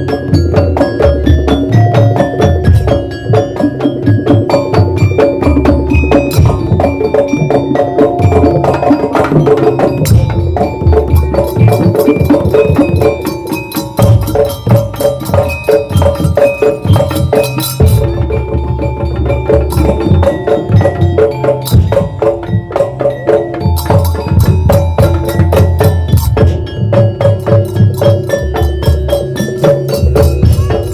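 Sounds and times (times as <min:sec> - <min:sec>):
percussion ensemble playing: 0:00.0 - 0:30.9.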